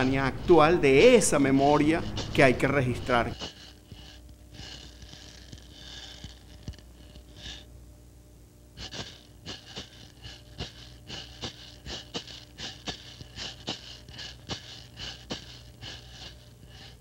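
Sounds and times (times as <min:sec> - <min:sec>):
heavy breathing: 0:00.0 - 0:07.7, 0:08.7 - 0:17.0.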